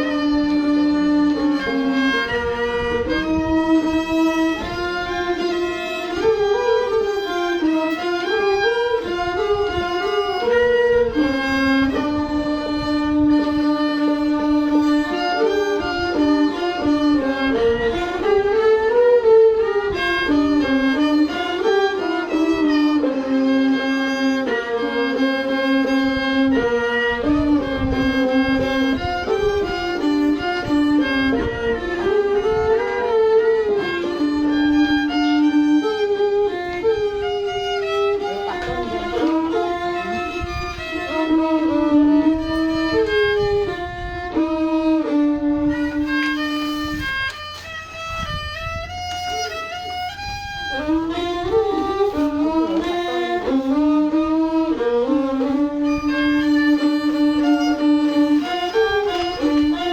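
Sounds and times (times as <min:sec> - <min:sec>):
violin melody: 0:00.0 - 0:59.9.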